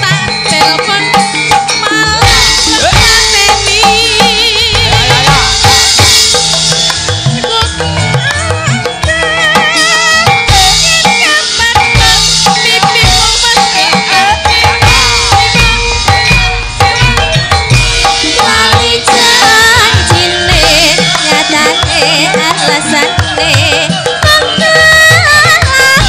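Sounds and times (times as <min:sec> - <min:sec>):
drum strokes: 0:00.0 - 0:26.0
gamelan music: 0:00.0 - 0:26.0
ringing metallophones: 0:00.0 - 0:26.0.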